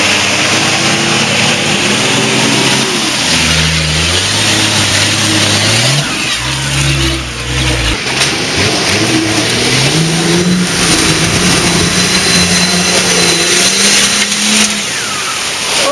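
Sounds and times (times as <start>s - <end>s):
engine revving under load: 0.0s - 15.9s
muddy water splashing: 0.0s - 15.9s.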